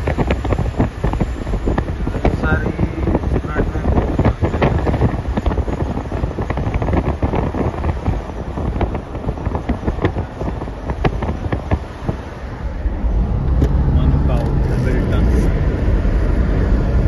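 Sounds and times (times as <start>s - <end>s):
car rumble on road: 0.0s - 17.0s
wind buffeting microphone: 0.0s - 17.0s.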